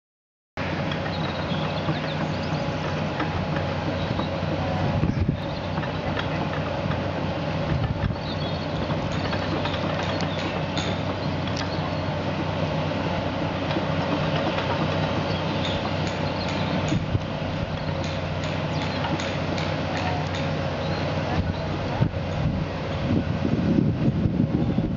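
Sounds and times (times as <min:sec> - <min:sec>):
excavator tracks clanking: 0:00.6 - 0:23.4
excavator diesel engine running: 0:00.6 - 0:24.9.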